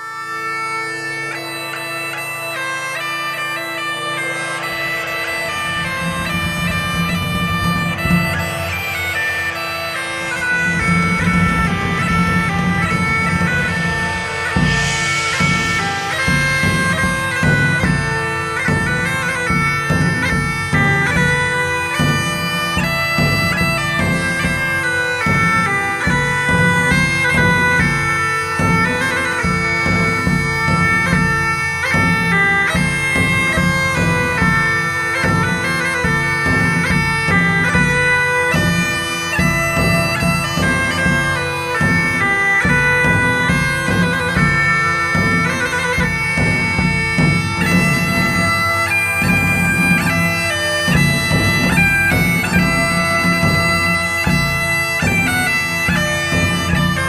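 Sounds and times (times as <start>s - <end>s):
bagpipe music: 0.0s - 57.0s
drum beat: 4.7s - 9.2s, 10.0s - 57.0s.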